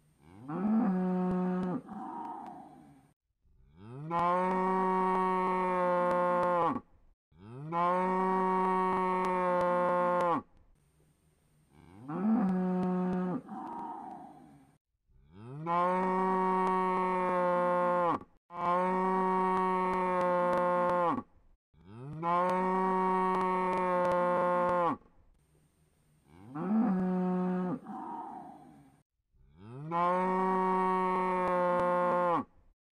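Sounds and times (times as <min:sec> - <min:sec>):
cow mooing: 0:00.2 - 0:03.0, 0:03.7 - 0:06.8, 0:07.4 - 0:10.5, 0:11.8 - 0:14.6, 0:15.3 - 0:25.0, 0:26.3 - 0:28.8, 0:29.5 - 0:32.5.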